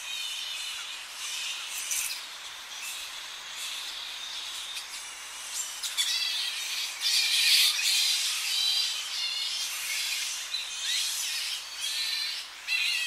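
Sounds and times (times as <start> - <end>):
distant surf hiss: 0.0 - 13.0
flying foxes calling: 0.0 - 13.0.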